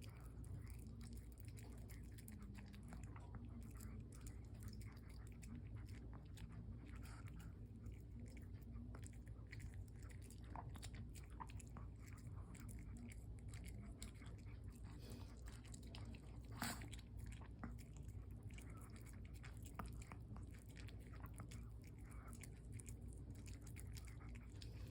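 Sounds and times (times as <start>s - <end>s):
dog chewing and crunching: 0.0s - 24.9s.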